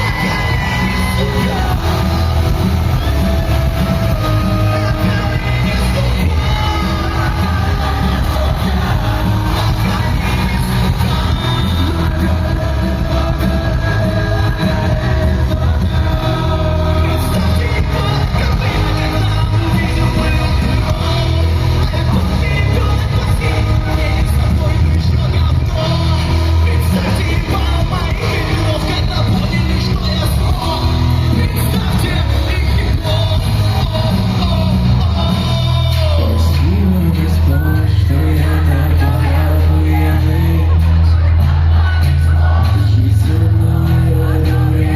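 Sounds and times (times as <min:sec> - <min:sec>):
heavy pulsing bass: 0:00.0 - 0:44.9
person singing: 0:00.0 - 0:44.9
rock band playing live: 0:00.0 - 0:44.9.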